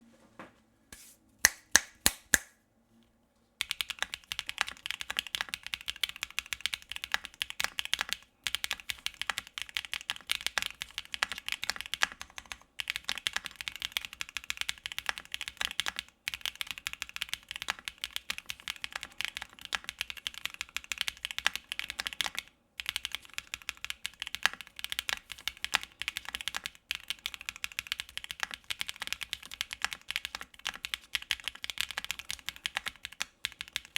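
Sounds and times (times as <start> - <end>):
mechanical keyboard typing: 3.6 - 33.9.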